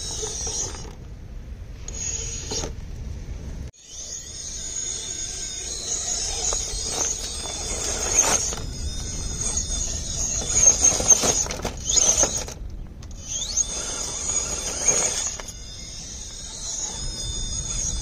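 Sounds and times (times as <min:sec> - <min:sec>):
electric motor whining: 0:00.0 - 0:01.0, 0:03.8 - 0:18.0.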